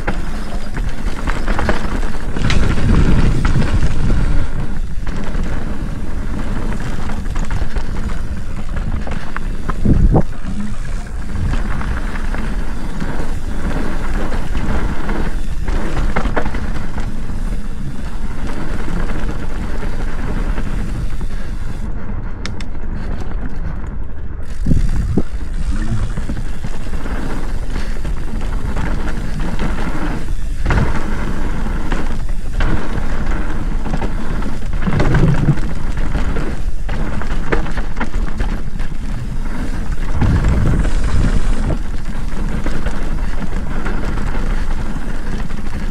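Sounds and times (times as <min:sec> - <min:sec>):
bike knocks and rattles: 0:00.0 - 0:45.9
tyre rumble: 0:00.0 - 0:45.9
wind buffeting microphone: 0:00.0 - 0:45.9.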